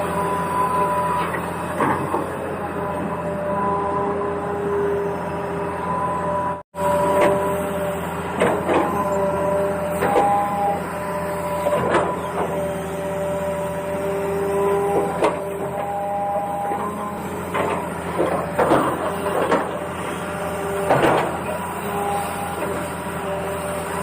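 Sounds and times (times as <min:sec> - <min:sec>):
toy excavator motors whining: 0:00.0 - 0:24.0.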